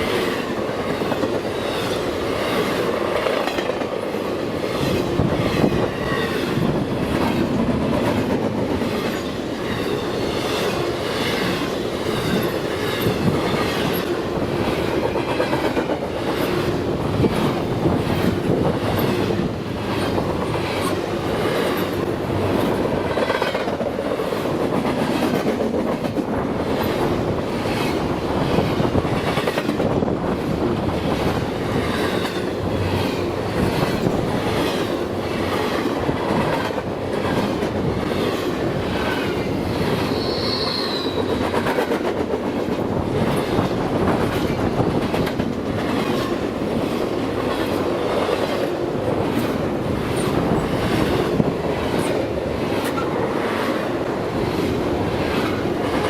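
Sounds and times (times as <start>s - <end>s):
wheels clicking over rail joints: 0.0s - 40.1s, 41.3s - 56.0s
freight train rumbling past: 0.0s - 56.0s.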